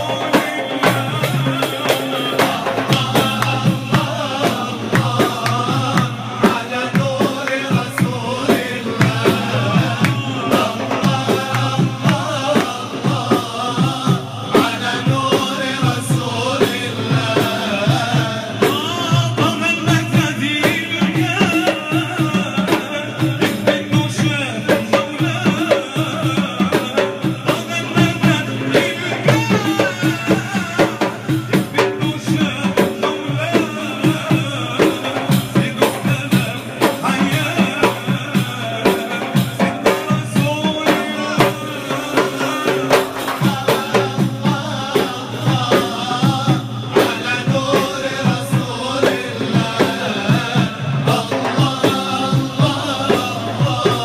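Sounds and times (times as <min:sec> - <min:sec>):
frame drums: 0:00.0 - 0:54.0
men singing a devotional chant: 0:00.0 - 0:54.0.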